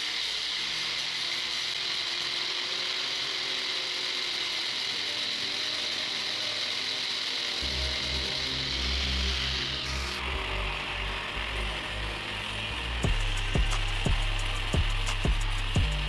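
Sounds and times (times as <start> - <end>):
fast mechanical ratcheting: 0.0 - 10.2, 12.1 - 16.0.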